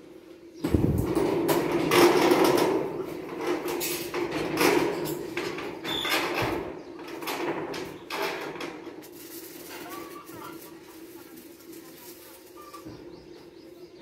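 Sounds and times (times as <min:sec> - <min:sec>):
metal roofing sheet rattling: 0:00.6 - 0:13.1.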